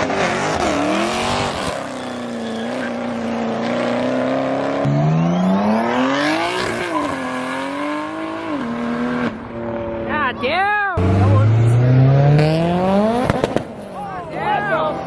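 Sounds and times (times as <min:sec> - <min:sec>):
car engine revving high: 0:00.0 - 0:10.1, 0:11.0 - 0:15.0.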